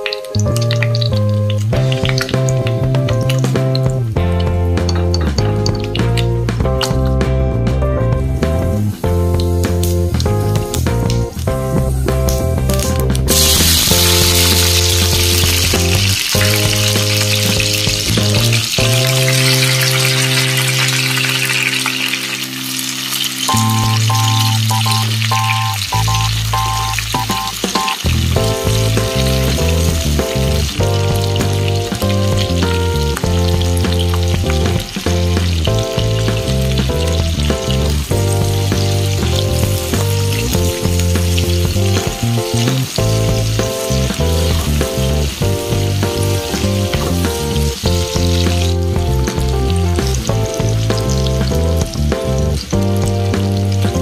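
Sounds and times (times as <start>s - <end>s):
vegetables sizzling in oil: 0.0s - 7.0s, 8.2s - 54.0s
background music with bass: 0.0s - 54.0s.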